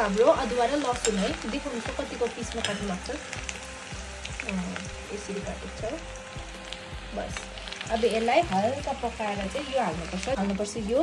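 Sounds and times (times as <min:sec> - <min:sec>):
ginger and garlic frying in oil: 0:00.0 - 0:11.0.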